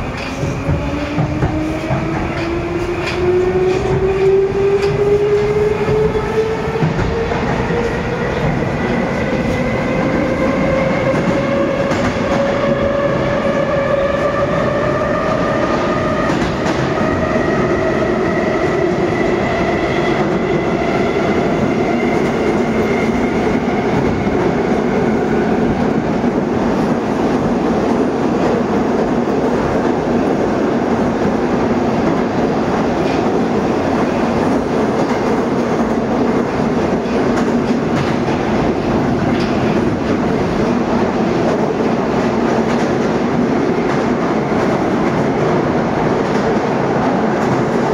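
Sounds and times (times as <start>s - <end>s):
metro train traction whine: 0.0s - 47.9s.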